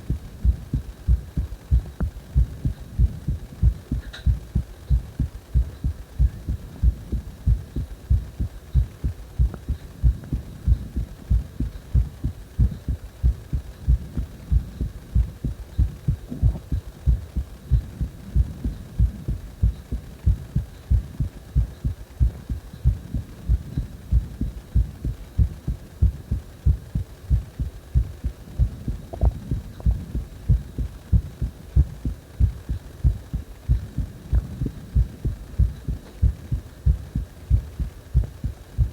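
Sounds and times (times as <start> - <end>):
heartbeat thumps: 0.0 - 38.9.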